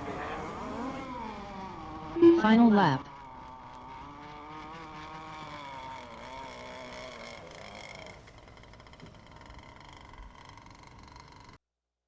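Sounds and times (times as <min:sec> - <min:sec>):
racing boat engine whining: 0:00.0 - 0:11.6.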